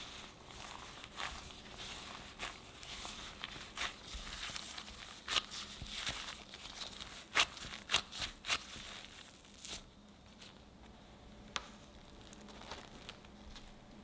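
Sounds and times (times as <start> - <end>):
dough crumbling and rustling: 0.0 - 14.0.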